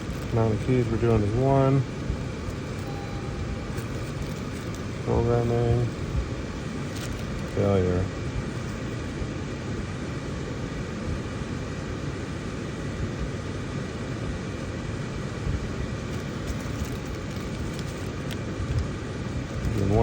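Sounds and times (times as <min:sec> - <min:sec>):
car ventilation blower running: 0:00.0 - 0:20.0.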